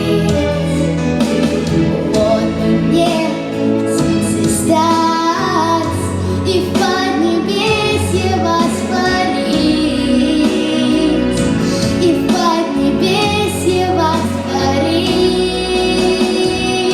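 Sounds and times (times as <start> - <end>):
girl singing: 0.0 - 0.9, 1.9 - 16.9
instrumental backing track: 0.0 - 16.9.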